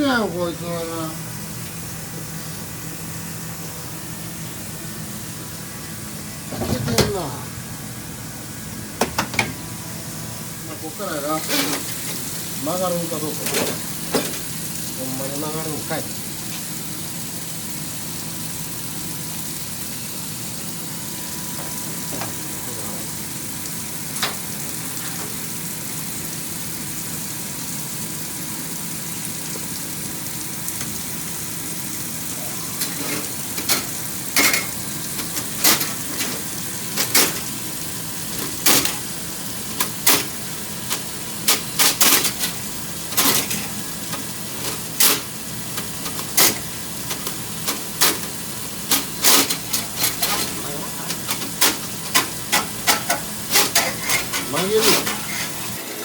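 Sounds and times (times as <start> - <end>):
drain cable spinning hiss: 0.0 - 56.0.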